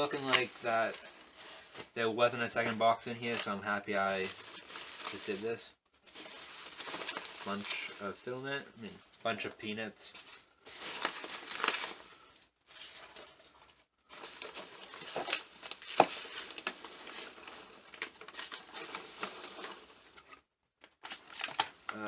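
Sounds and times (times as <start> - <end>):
crinkling packaging: 0.0 - 22.0
rustling packing peanuts: 0.0 - 22.0.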